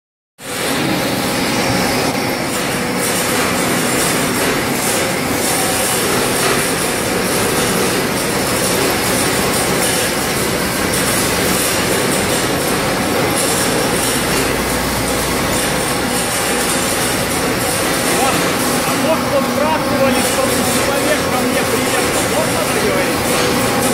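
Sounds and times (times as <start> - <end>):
machinery running: 0.4 - 23.9.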